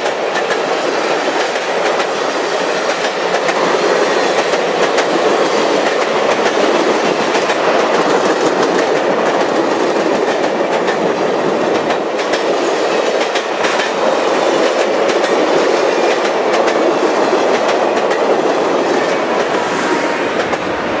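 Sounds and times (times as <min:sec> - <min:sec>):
train cars rumbling past: 0:00.0 - 0:21.0.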